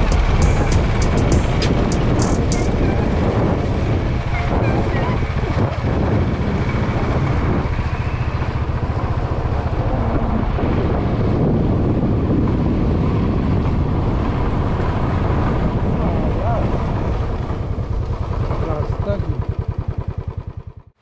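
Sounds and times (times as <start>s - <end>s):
wind noise on microphone: 0.0s - 20.6s
motorcycle engine running: 0.0s - 21.0s.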